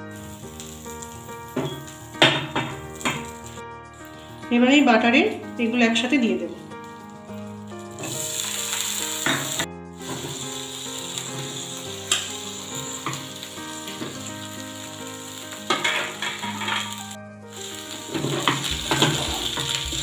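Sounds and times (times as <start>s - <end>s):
butter sizzling in a frying pan: 0.1s - 3.6s, 6.9s - 20.0s.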